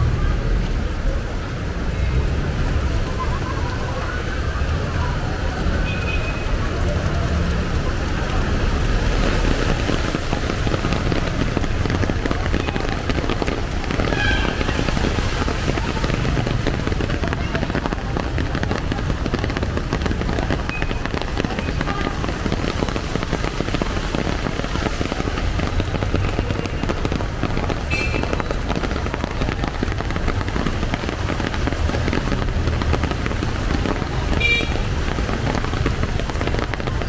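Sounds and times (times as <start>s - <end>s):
heavy rain on flooded street: 0.0s - 37.0s.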